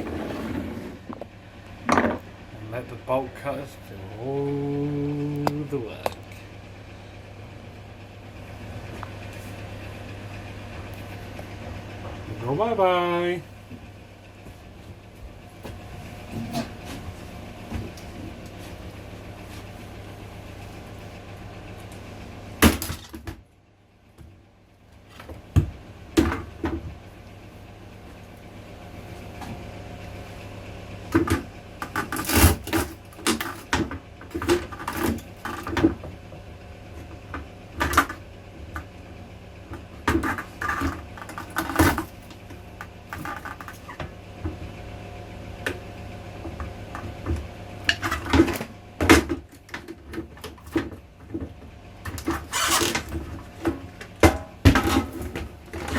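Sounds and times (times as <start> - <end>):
fan heater hum: 0.0 - 55.9.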